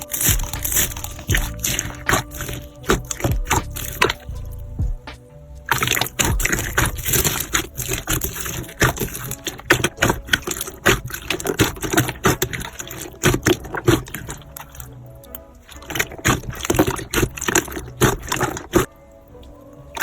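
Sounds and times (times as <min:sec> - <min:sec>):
slime squishing with wet pops: 0:00.0 - 0:18.9.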